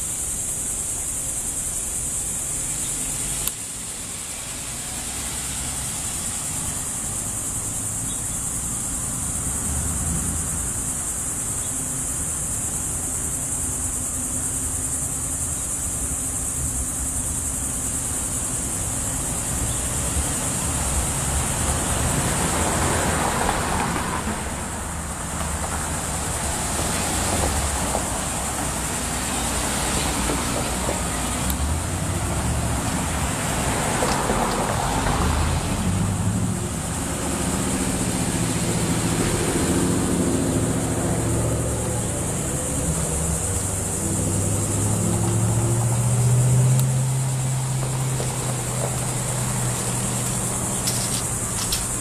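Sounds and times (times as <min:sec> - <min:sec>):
cars driving slowly past: 0:00.1 - 0:52.0.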